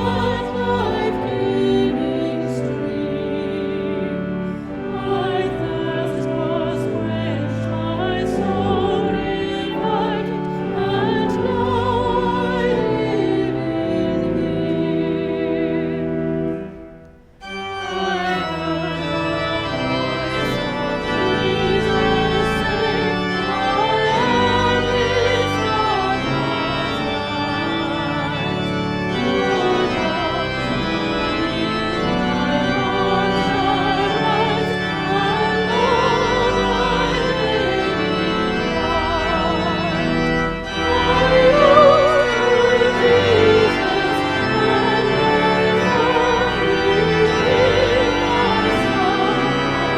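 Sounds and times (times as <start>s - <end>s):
organ playing held chords: 0.0s - 49.9s.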